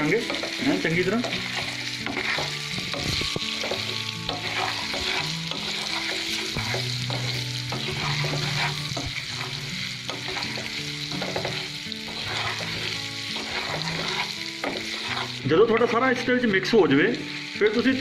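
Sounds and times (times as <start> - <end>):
spatula scraping a pan: 0.0 - 16.0
food sizzling in hot oil: 0.0 - 18.0.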